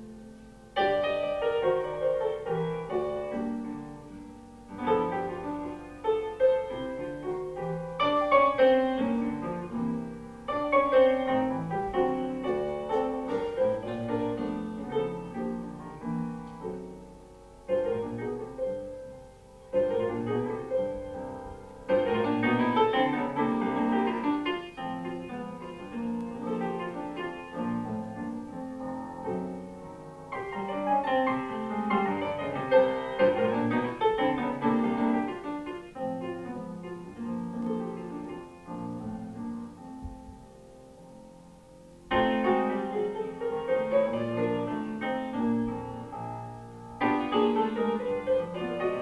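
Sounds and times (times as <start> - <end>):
grand piano playing jazz: 0.0 - 49.0.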